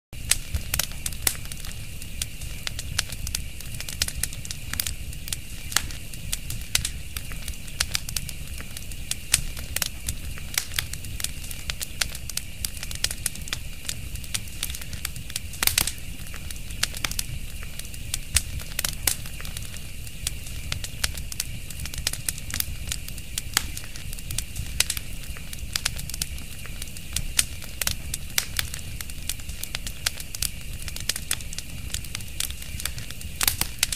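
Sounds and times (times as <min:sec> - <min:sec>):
fire crackling and popping: 0:00.2 - 0:33.9.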